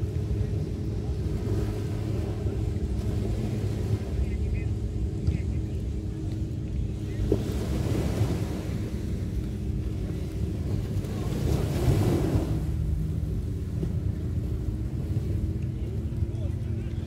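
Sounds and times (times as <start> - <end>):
surf washing on sand: 0.0 - 17.0
wind on microphone: 0.0 - 17.0.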